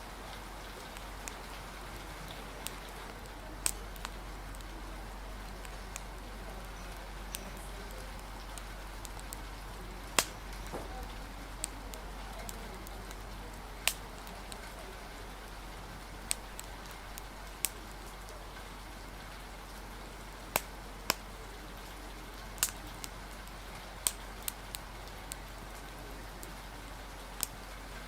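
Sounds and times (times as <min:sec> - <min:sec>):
rain hissing: 0:00.0 - 0:28.0
wood fire crackling: 0:00.0 - 0:28.0.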